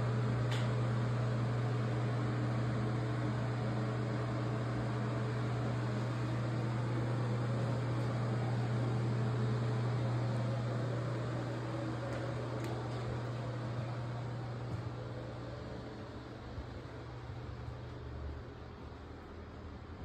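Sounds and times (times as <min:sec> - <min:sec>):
fan humming and hissing: 0:00.0 - 0:20.0.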